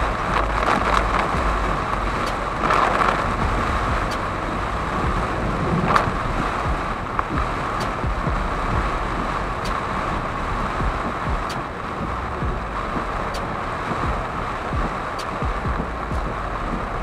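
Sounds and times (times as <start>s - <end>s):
heavy rain on car roof: 0.0s - 17.0s
tyres rumbling on wet road: 0.0s - 17.0s
windscreen wipers ticking: 0.0s - 17.0s.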